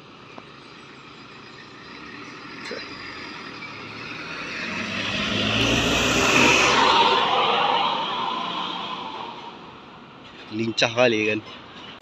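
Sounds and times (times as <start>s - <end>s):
minibus approaching at speed: 0.0s - 12.0s.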